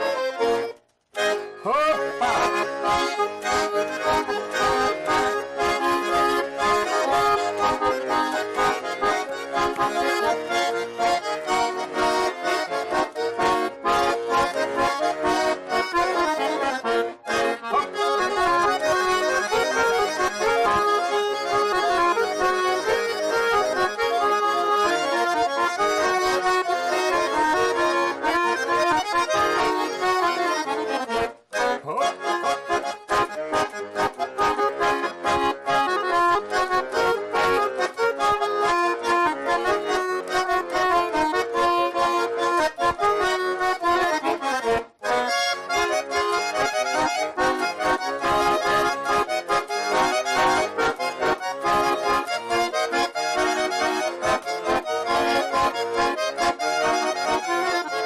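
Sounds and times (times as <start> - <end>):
button accordion folk tune: 0.0 - 58.0.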